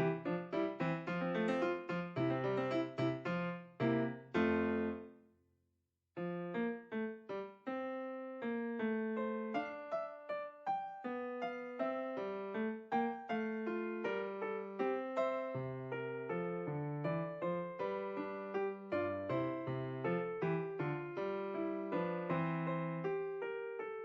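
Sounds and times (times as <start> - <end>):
electric piano music: 0.0 - 5.1, 6.2 - 24.0.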